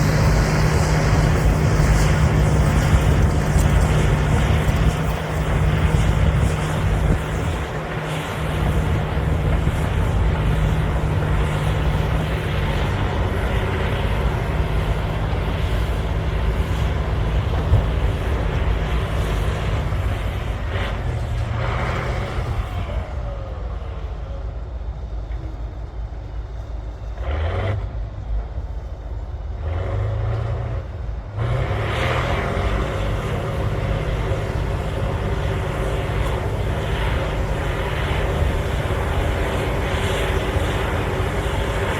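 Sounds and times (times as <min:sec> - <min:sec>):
bulldozer diesel engine working: 0:00.0 - 0:41.9.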